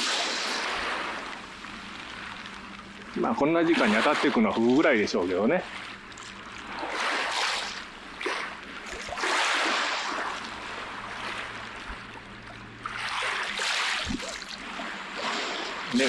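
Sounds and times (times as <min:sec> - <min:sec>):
small waves washing onto shore: 0:00.0 - 0:16.0.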